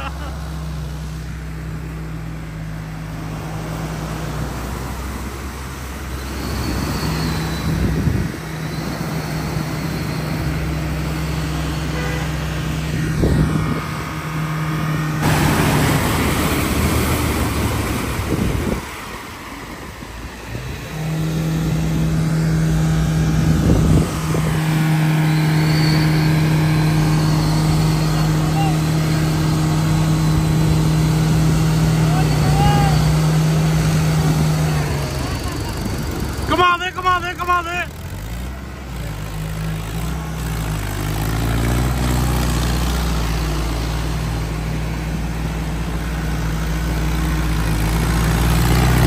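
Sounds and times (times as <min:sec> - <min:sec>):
engine revving under load: 0:00.0 - 0:49.0.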